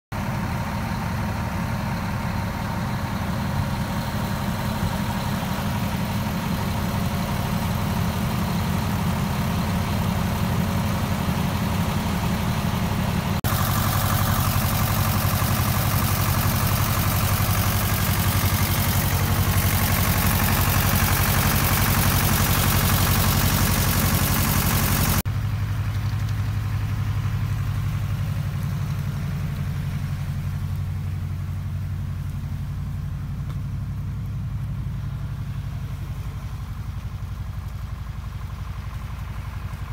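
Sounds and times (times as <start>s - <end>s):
heavy engine running: 0.1s - 39.9s.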